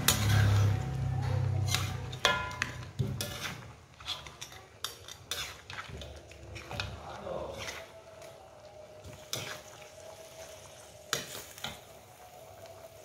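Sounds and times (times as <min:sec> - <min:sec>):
metal spatula scraping a wok: 0:00.0 - 0:12.2.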